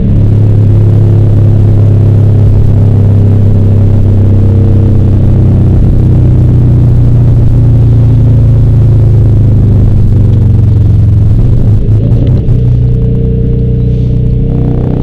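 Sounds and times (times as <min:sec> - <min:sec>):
car exhaust droning from inside: 0:00.0 - 0:15.0.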